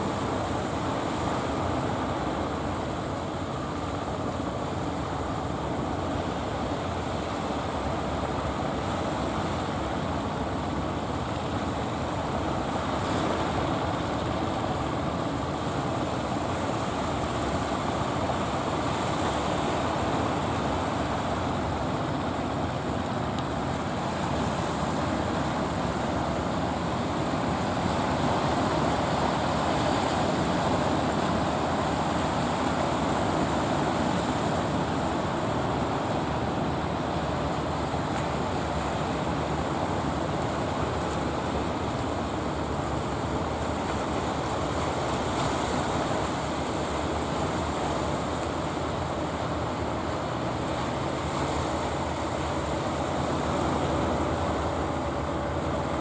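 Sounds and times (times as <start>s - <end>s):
boat engines running: 0.0s - 56.0s
surf washing: 0.0s - 56.0s.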